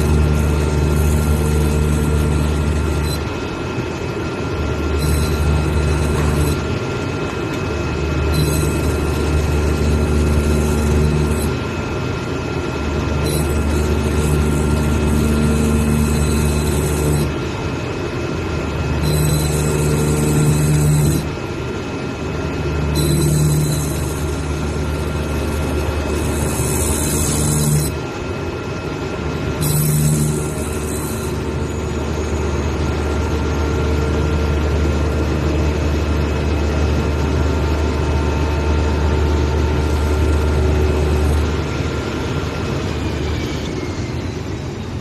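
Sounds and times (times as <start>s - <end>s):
cutting machine hum and whine: 0.0s - 45.0s.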